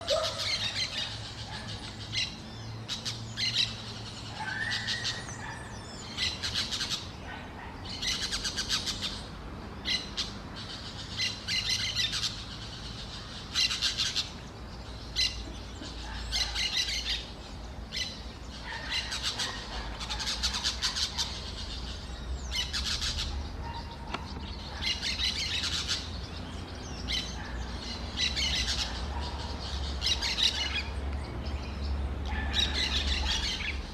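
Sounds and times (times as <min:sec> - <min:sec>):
songbird chirping: 0:00.0 - 0:33.9.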